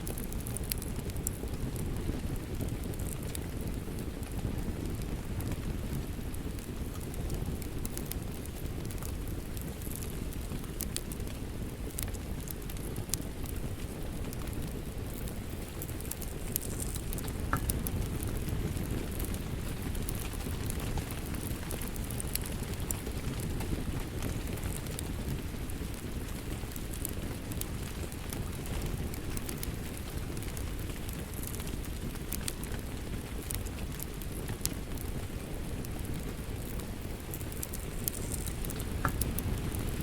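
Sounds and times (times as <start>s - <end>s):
fire crackling and popping: 0.0s - 40.0s
steady rain: 0.0s - 40.0s.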